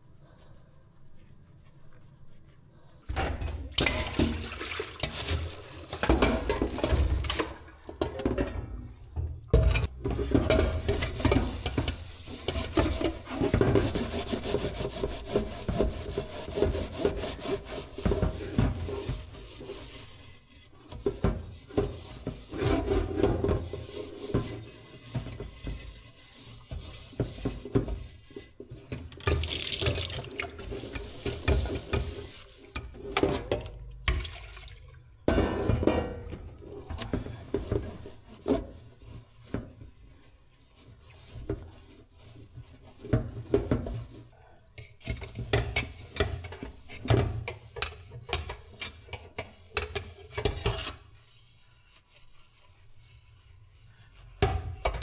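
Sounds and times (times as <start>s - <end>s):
utensil scraping a pot: 0.0s - 33.7s, 35.3s - 54.4s.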